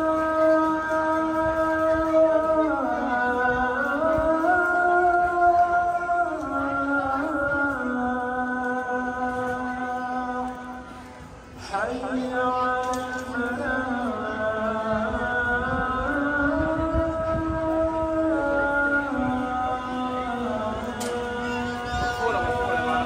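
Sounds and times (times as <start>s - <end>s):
man chanting call to prayer: 0.0s - 10.9s, 11.6s - 23.0s.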